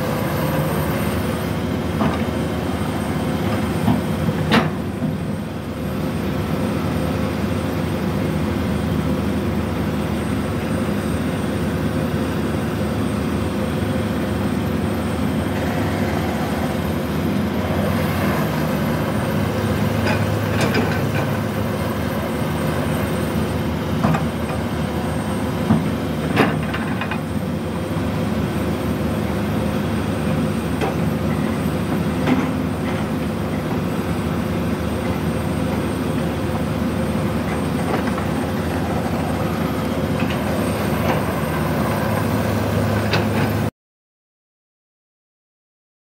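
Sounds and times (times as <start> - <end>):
excavator diesel engine running: 0.0 - 43.7.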